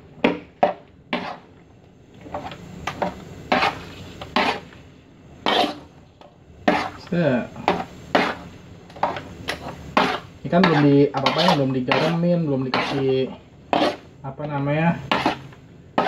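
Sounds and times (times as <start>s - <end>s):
spatula scraping a wok: 0.2s - 1.6s, 2.2s - 4.8s, 5.4s - 6.0s, 6.6s - 16.0s.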